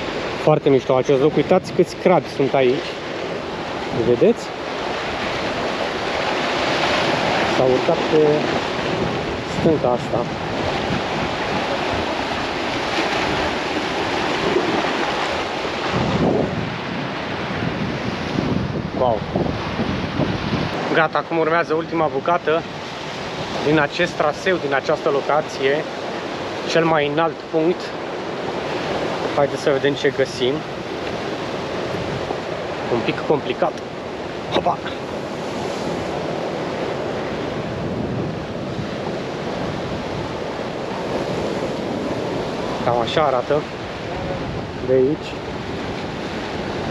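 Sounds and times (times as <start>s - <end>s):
wind buffeting microphone: 0.0s - 24.7s, 25.3s - 46.9s
sea waves washing against rocks: 0.0s - 46.9s.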